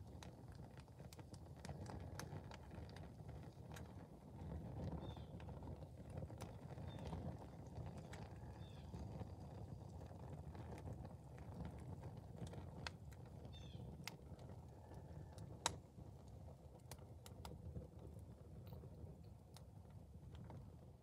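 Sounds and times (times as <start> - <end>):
fire crackling and popping: 0.0 - 21.0
low steady rush of fire: 0.0 - 21.0.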